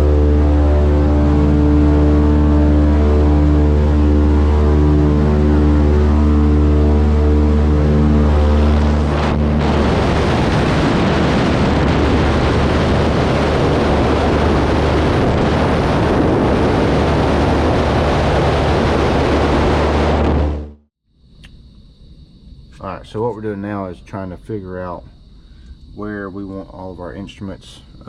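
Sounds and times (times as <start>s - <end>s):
radial aircraft engines droning: 0.0s - 28.0s.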